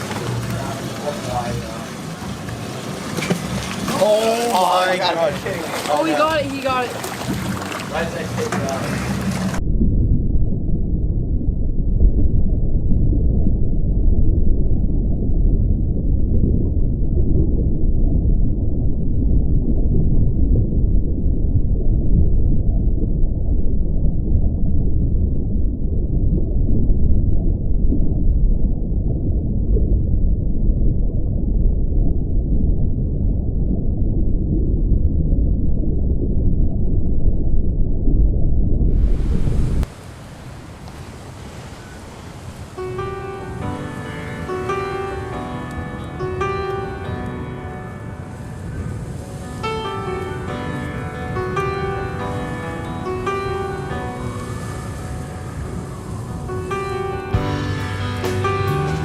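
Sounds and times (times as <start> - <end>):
muffled underwater rumble: 0.0 - 59.0.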